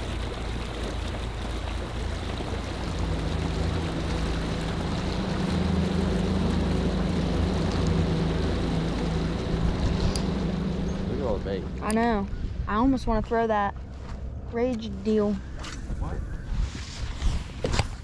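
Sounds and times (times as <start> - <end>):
outboard motor running: 0.0 - 16.2
water rushing along hull: 0.0 - 18.0.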